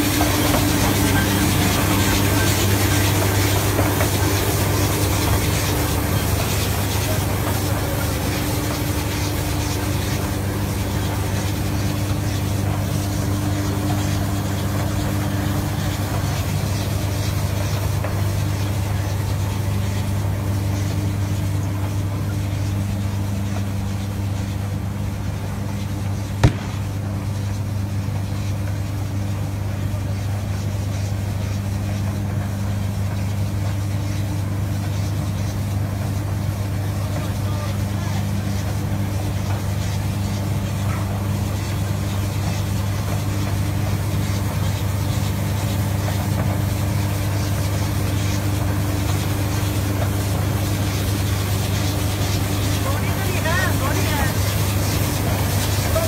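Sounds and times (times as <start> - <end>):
machine engine humming: 0.0 - 56.0.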